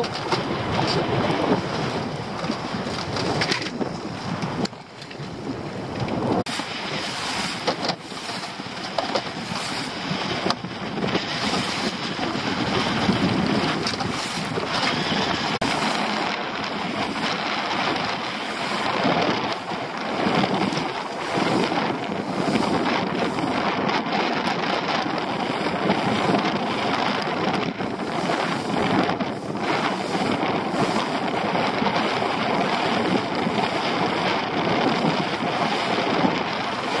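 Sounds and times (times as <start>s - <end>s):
water splashing against boat hull: 0.0s - 37.0s
wind buffeting microphone: 0.0s - 37.0s.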